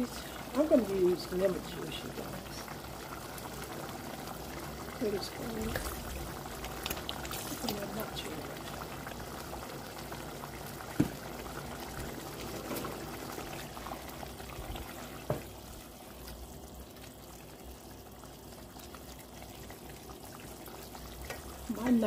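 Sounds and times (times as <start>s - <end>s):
sauce bubbling in a pot: 0.0s - 22.0s.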